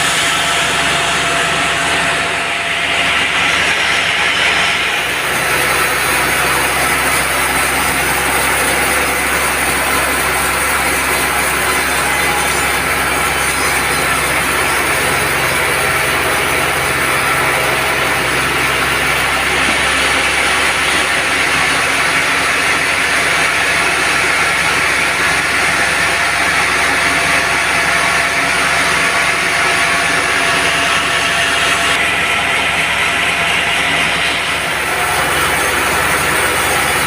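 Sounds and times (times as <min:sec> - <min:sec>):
band saw cutting log: 0:00.0 - 0:37.0.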